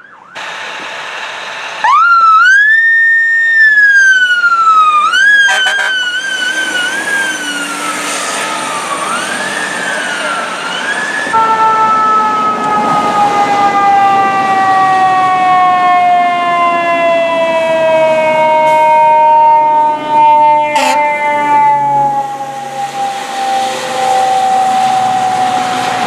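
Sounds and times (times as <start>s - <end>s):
long falling siren tone: 0.0s - 26.0s
wavering fire truck siren: 0.0s - 26.0s.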